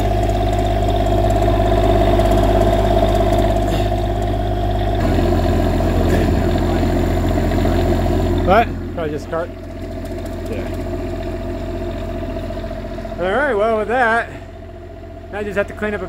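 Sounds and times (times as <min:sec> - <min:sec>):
generator humming: 0:00.0 - 0:16.0.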